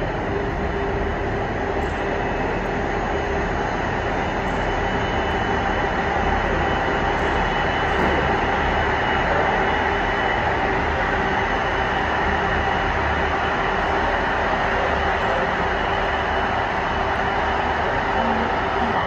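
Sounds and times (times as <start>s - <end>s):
high engine whine: 0.0s - 19.0s
jet engines taxiing: 0.0s - 19.0s.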